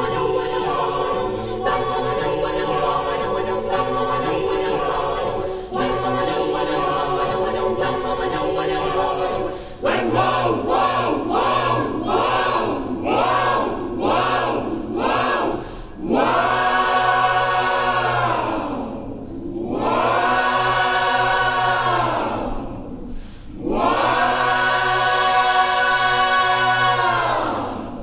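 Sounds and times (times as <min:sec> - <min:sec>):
mixed choir singing a cappella: 0:00.0 - 0:28.0.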